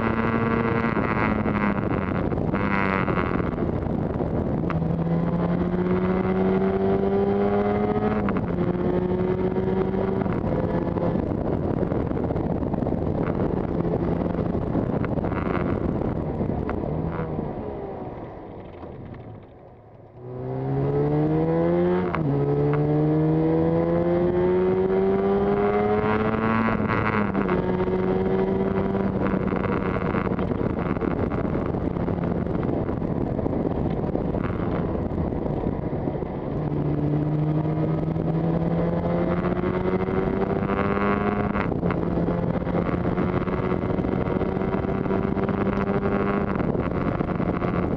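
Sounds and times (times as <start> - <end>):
motorcycle engine accelerating: 0.0 - 47.9
wind on microphone: 0.0 - 47.9.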